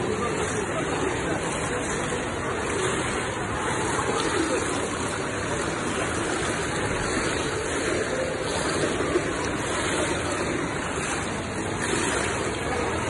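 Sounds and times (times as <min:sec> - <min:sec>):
faint voices: 0:00.0 - 0:13.0
swimmers splashing: 0:00.0 - 0:13.0
water lapping at pool edge: 0:00.0 - 0:13.0.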